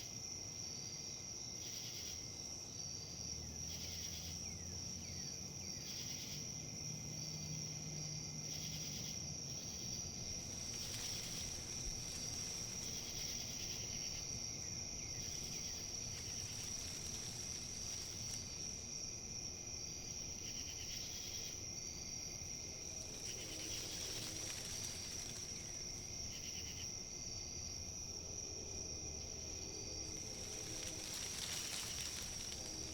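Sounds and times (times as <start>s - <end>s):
insects trilling: 0.0s - 32.9s
wind in leaves: 0.2s - 32.9s.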